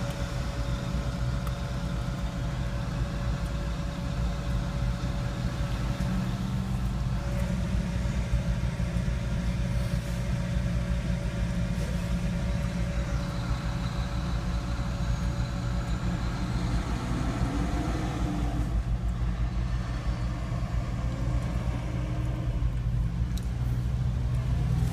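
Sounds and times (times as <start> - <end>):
car engine and road noise: 0.0 - 24.9.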